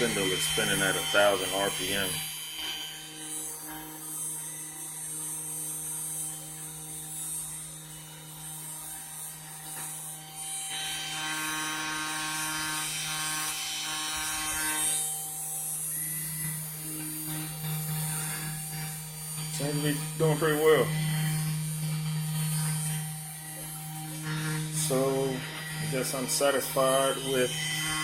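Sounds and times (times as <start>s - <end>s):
axis motors moving: 0.0s - 28.0s
high-pitched whine: 0.0s - 28.0s
spindle motor humming: 0.0s - 28.0s.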